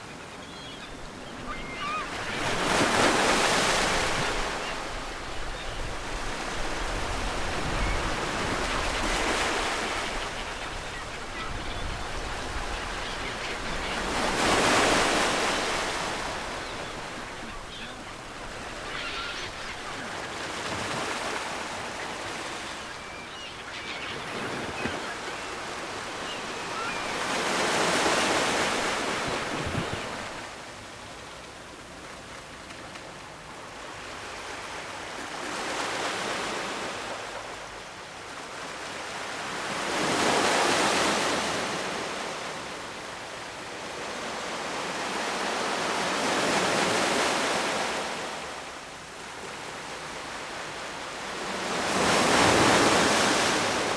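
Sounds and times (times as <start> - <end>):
ocean waves breaking on shore: 0.0 - 30.8, 33.6 - 53.9.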